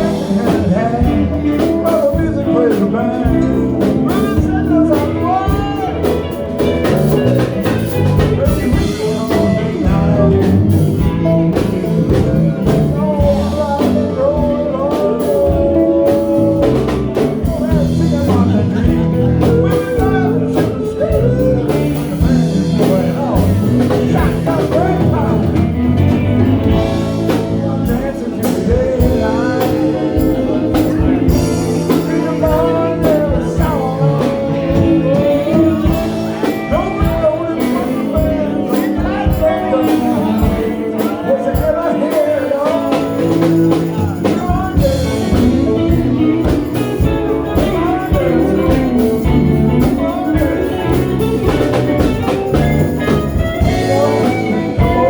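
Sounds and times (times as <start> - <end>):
blues-rock band playing: 0.0 - 55.0
person singing: 0.0 - 55.0.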